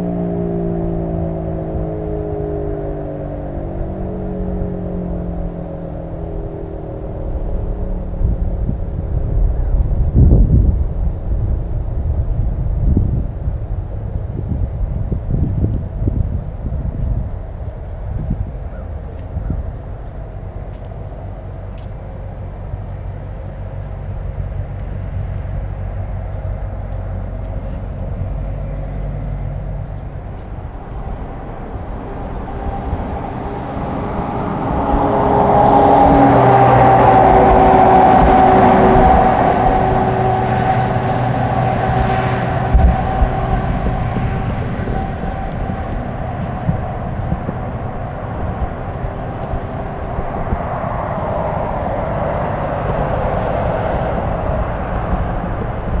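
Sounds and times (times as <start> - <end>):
fire siren wailing: 0.0 - 12.2, 14.3 - 56.0
low rumble: 0.0 - 56.0.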